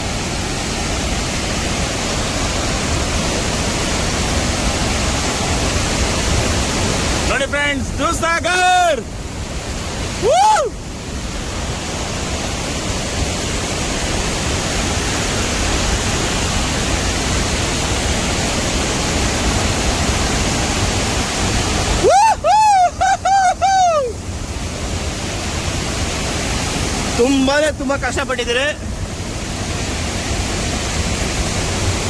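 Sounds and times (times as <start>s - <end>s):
waterfall roaring: 0.0s - 32.0s.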